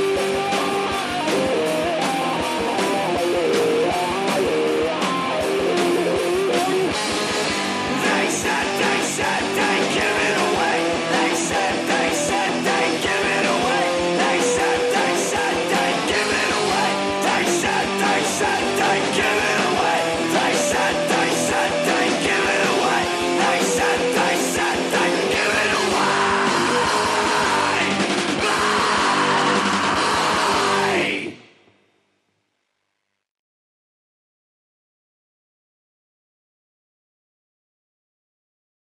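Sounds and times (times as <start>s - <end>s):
rock guitars and drums: 0.0s - 31.5s.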